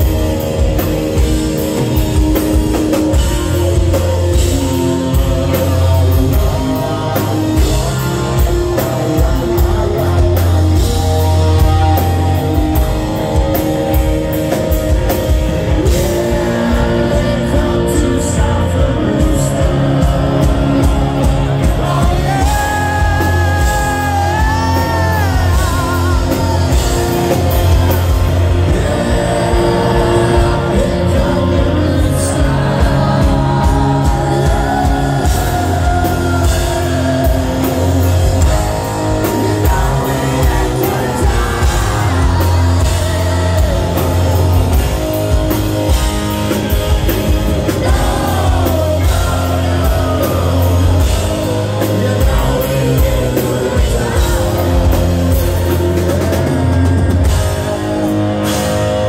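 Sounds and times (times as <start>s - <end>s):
live rock band playing: 0.0s - 59.0s
man singing: 0.0s - 59.0s.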